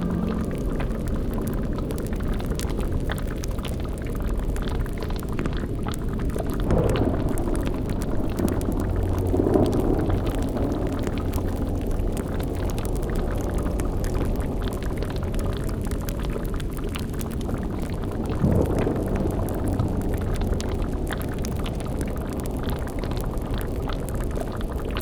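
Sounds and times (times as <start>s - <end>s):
heavy gurgling surge: 0.0s - 25.0s
low rumble: 0.0s - 25.0s
thick liquid bubbling and popping: 0.0s - 25.0s.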